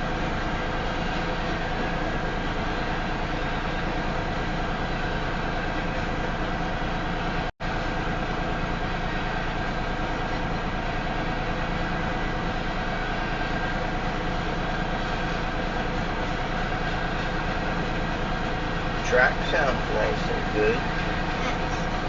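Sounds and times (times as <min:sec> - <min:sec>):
freight cars rumbling on rails: 0:00.0 - 0:22.0.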